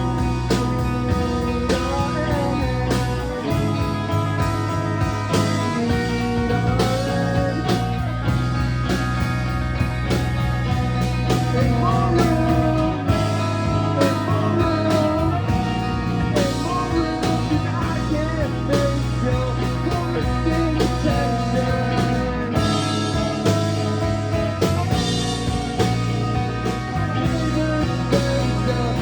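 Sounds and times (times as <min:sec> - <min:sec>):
bending lead guitar line: 0:00.0 - 0:29.0
rock band playing: 0:00.0 - 0:29.0
sustained bass notes: 0:00.0 - 0:29.0.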